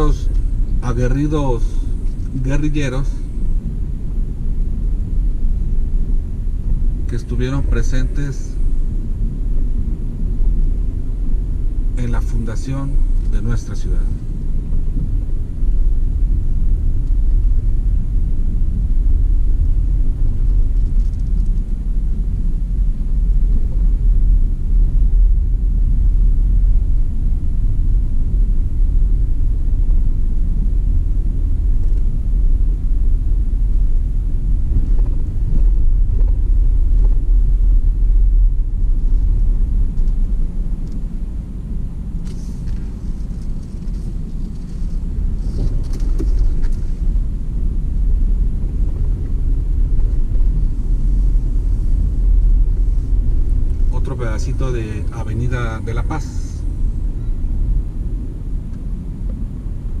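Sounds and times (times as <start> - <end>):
car engine and road noise: 0.0 - 60.0.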